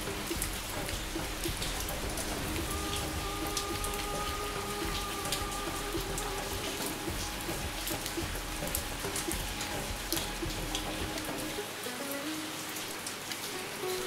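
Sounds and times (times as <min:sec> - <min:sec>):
rain falling into a puddle: 0:00.0 - 0:14.0.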